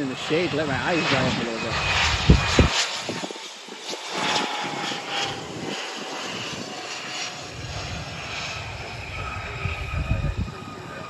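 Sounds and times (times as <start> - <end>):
jet engines rushing with thin whine: 0.0 - 11.0.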